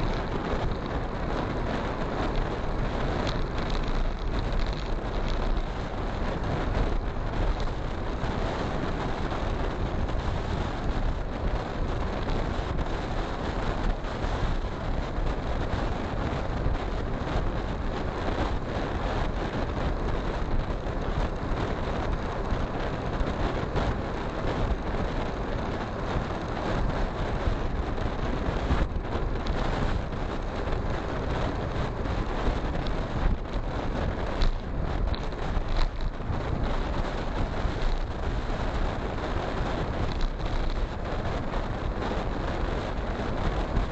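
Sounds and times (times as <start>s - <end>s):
motorcycle road and engine noise: 0.0s - 43.9s
wind rush on microphone: 0.0s - 43.9s.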